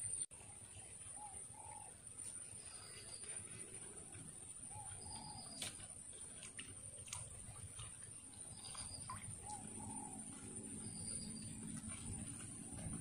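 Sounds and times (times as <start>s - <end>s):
bird calling faintly: 0.0s - 13.0s.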